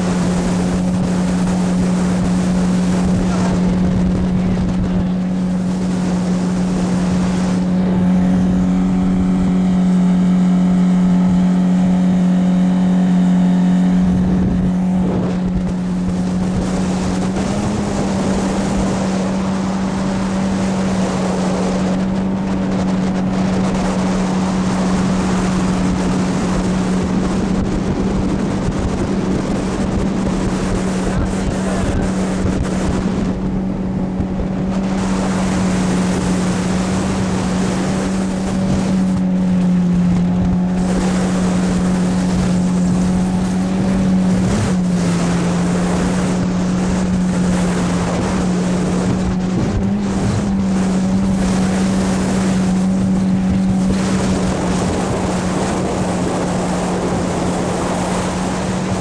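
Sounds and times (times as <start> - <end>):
outboard motor drone: 0.0 - 59.0
water and wind rushing: 0.0 - 59.0.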